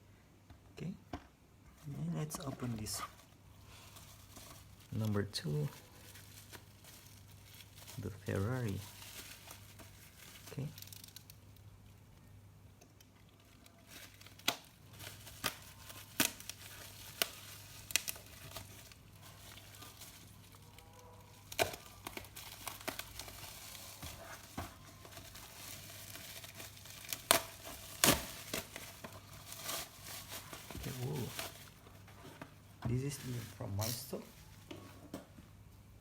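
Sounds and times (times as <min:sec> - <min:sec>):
bubble wrap crinkling: 0:01.7 - 0:35.4
plastic packaging tearing: 0:02.4 - 0:11.4, 0:13.2 - 0:32.1, 0:32.9 - 0:34.7.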